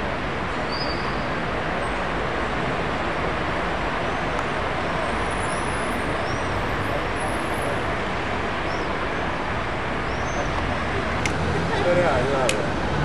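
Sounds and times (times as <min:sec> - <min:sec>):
city traffic din: 0:00.0 - 0:13.0.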